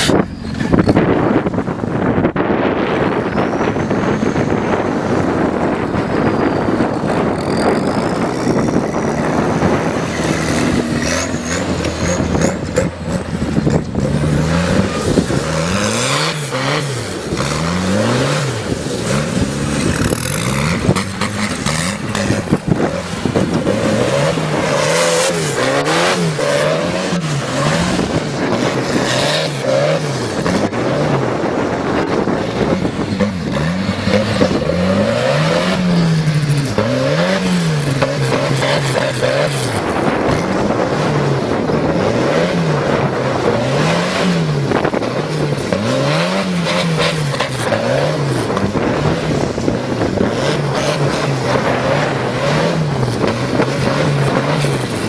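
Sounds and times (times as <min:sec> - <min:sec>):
tractor engine revving: 0:00.0 - 0:55.0.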